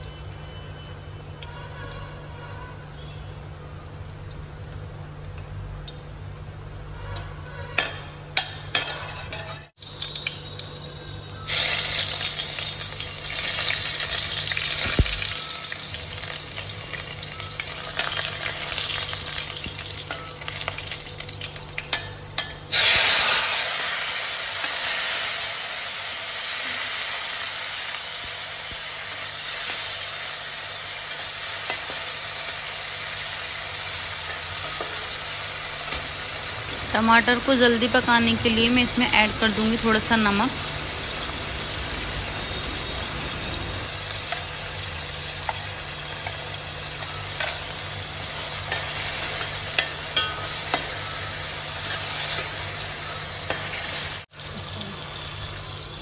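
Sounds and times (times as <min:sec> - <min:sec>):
hot oil sizzling in a pan: 0:03.0 - 0:56.0.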